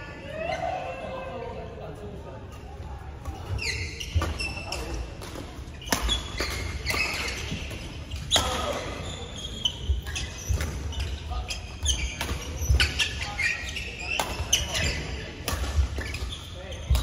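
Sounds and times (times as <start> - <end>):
shoes squeaking on court: 3.2 - 17.0.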